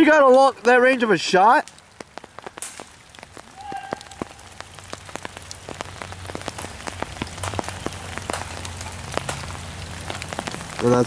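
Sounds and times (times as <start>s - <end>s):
drops ticking close by: 0.0s - 11.0s
rain falling on leaves: 0.0s - 11.0s.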